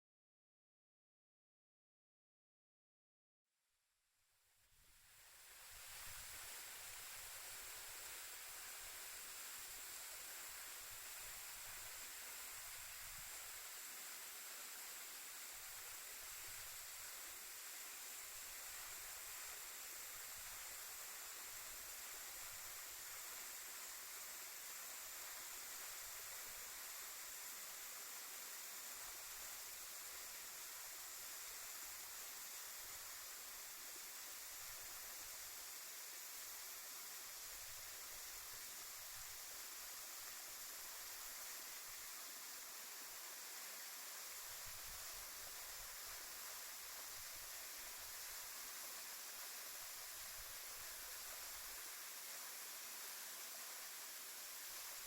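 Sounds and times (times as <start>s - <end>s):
waterfall hiss: 4.6s - 55.0s.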